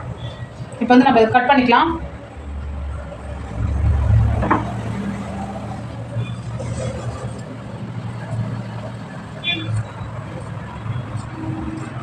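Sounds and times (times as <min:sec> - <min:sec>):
vehicle engine rumble: 0:02.0 - 0:12.0.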